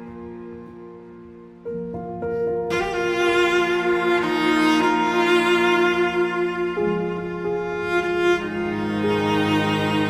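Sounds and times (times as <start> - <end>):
slow bowed string music: 0.0 - 10.0.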